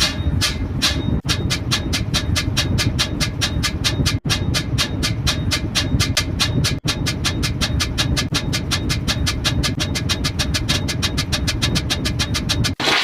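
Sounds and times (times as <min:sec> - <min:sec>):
low mechanical rumble: 0:00.0 - 0:12.9
rapid even ticking: 0:00.9 - 0:12.8.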